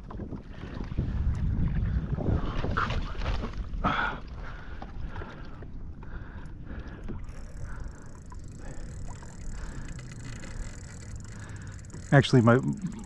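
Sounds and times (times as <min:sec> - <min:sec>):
water swishing against hull: 0:00.0 - 0:13.0.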